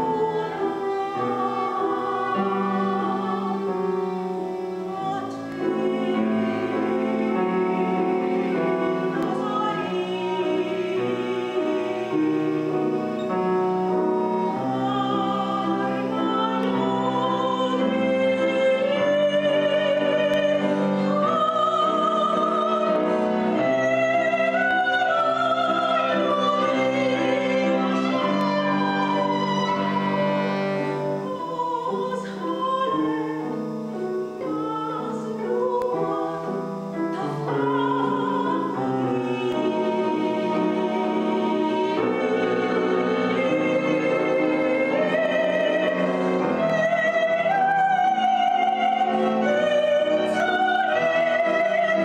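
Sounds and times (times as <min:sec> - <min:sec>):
person singing with vibrato: 0:00.0 - 0:52.0
piano: 0:00.0 - 0:52.0.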